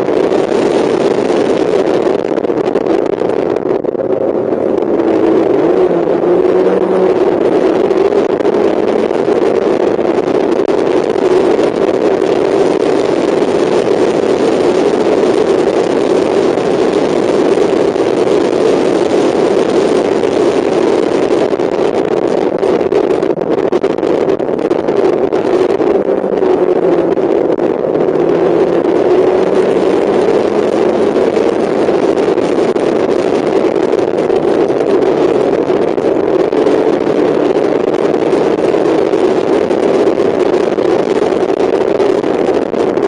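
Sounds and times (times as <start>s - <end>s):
car engine running hard: 0.0s - 43.0s
wind and road noise: 0.0s - 43.0s.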